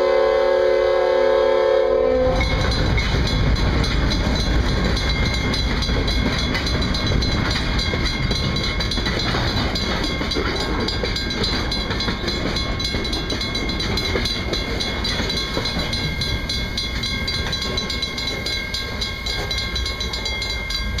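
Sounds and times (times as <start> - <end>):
train wheels rumbling on rail: 0.0 - 21.0
crossing bell ringing: 2.1 - 21.0.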